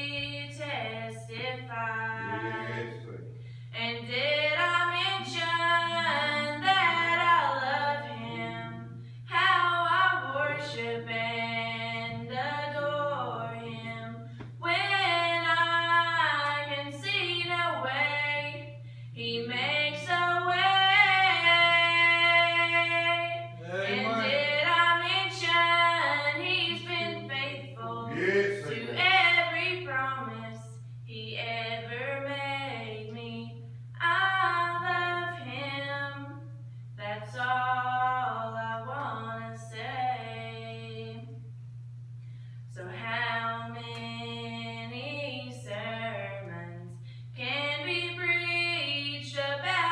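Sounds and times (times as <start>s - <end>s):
woman singing: 0.0s - 3.0s, 3.7s - 41.4s, 42.7s - 49.9s
steady low hum: 0.0s - 49.9s.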